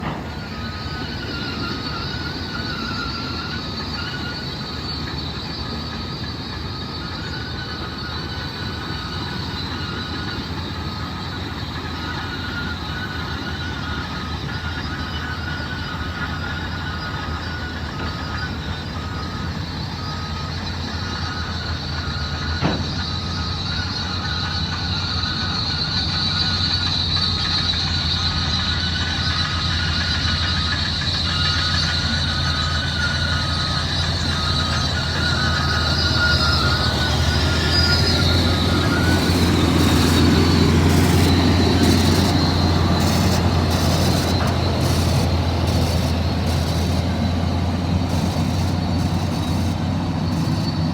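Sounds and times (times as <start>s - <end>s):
diesel machine rumble and whine: 0.0s - 50.9s.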